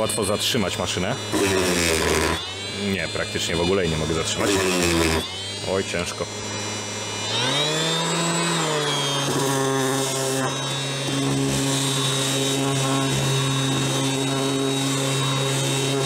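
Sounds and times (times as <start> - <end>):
sanding wooden board: 0.0 - 5.3, 7.2 - 16.0
orbital sander motor hum: 0.0 - 16.0.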